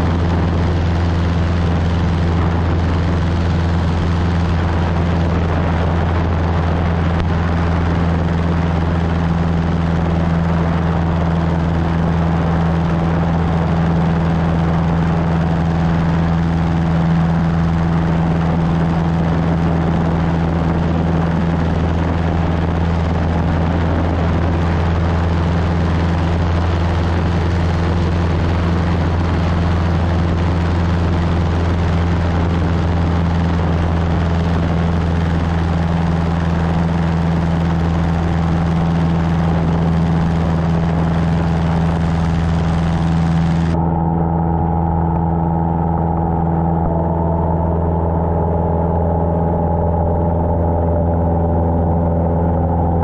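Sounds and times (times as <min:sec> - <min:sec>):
airplane engine droning in cabin: 0:00.0 - 0:53.0.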